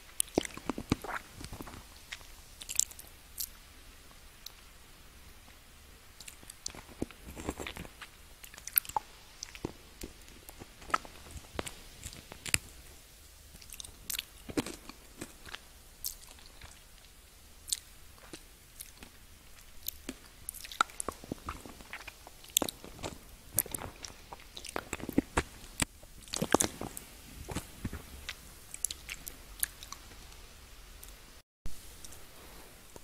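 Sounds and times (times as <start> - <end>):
person chewing candy: 0.0 - 3.6, 6.1 - 12.8, 13.5 - 30.4.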